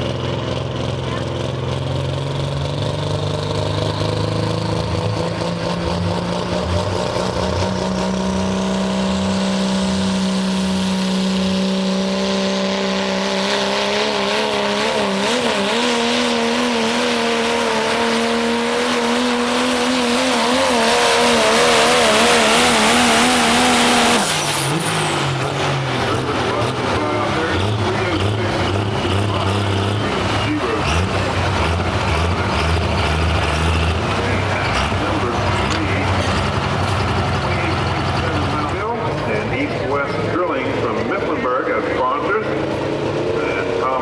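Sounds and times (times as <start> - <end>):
diesel pickup engine at full throttle: 0.0 - 44.0.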